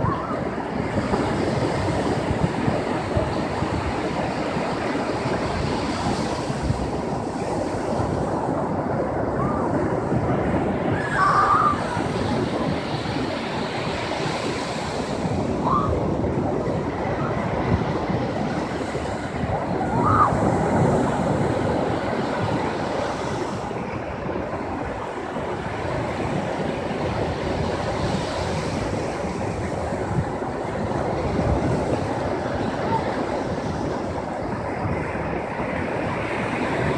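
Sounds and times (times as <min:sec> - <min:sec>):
waves breaking on sand: 0:00.0 - 0:36.9.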